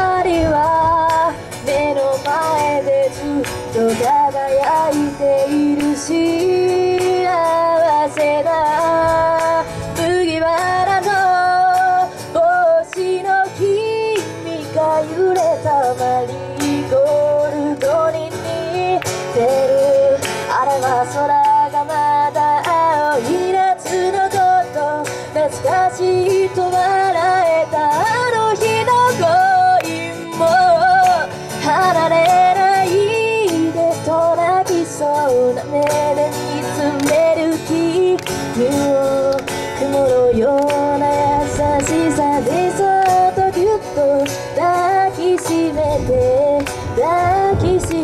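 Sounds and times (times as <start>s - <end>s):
acoustic guitar: 0.0s - 48.0s
woman singing pop song: 0.0s - 48.0s.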